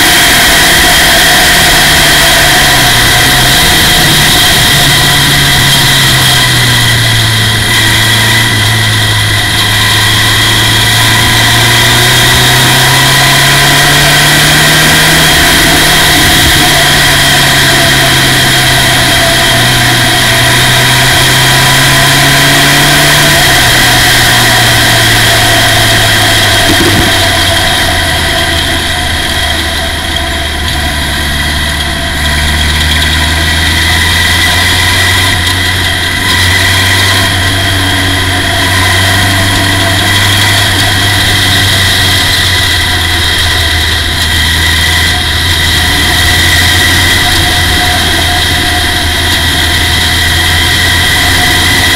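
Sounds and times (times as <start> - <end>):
race car engine from cockpit: 0.0 - 51.9.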